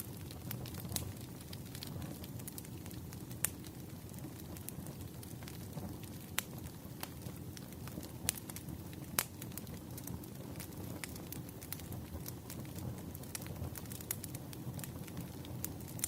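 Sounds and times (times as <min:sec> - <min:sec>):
fire flames rumbling: 0:00.0 - 0:16.0
firewood popping: 0:00.1 - 0:16.0.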